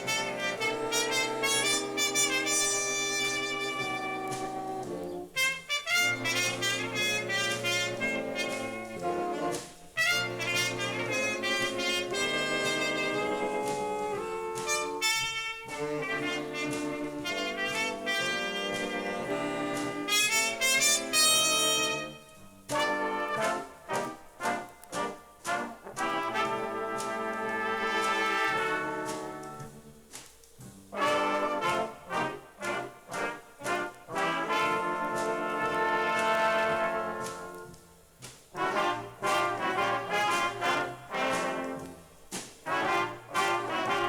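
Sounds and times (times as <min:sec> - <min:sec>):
big band jazz playing: 0:00.0 - 0:44.0.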